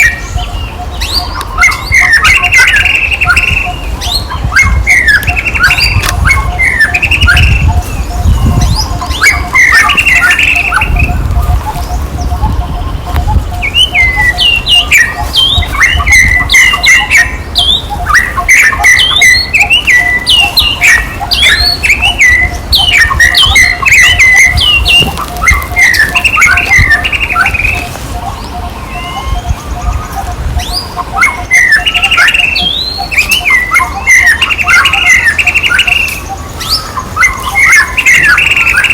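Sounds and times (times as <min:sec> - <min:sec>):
high chirping animal calls: 0:00.0 - 0:38.9.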